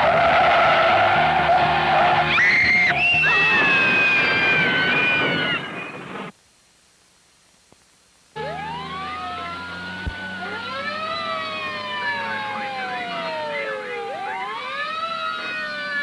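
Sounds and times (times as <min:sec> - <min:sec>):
emergency vehicle sirens wailing: 0:00.0 - 0:06.3, 0:08.4 - 0:16.0.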